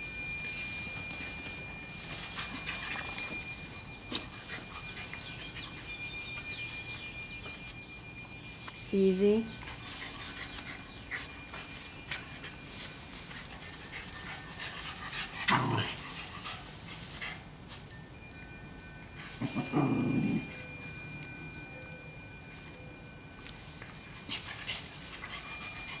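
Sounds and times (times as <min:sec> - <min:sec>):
high ringing notes: 0:00.0 - 0:16.4, 0:17.9 - 0:26.0
dogs play-fighting: 0:00.3 - 0:07.8, 0:09.5 - 0:17.8, 0:19.0 - 0:21.7, 0:23.5 - 0:26.0.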